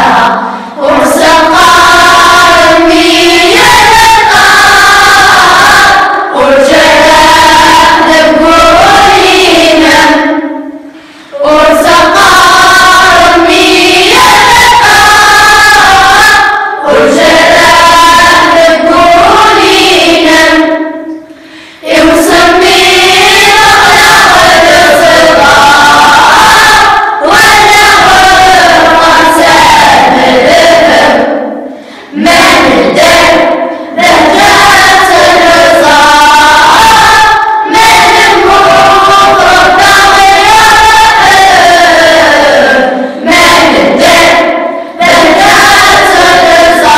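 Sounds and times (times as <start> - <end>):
children's choir singing: 0.0 - 46.9.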